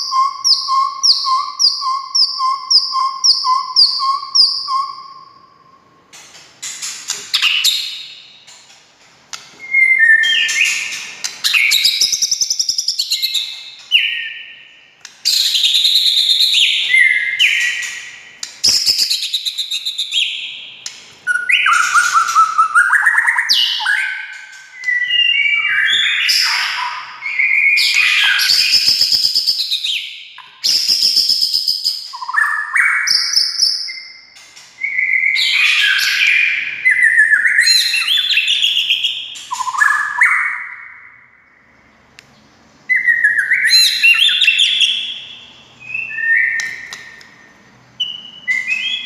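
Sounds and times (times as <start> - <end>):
bird singing whistles and trills: 0.0 - 6.0, 6.7 - 8.5, 9.6 - 41.4, 42.8 - 49.0.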